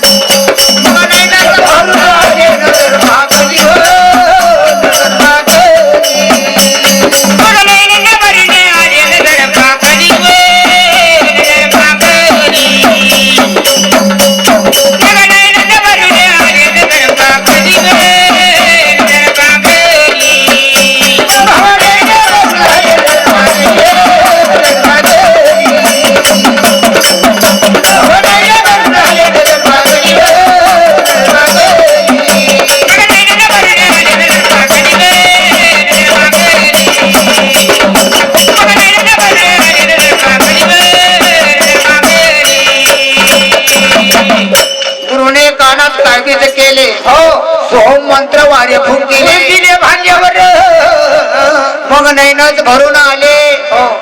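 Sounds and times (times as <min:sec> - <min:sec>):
person singing wavering melody: 0:00.0 - 0:48.3
fast rattling percussion: 0:00.0 - 0:53.5.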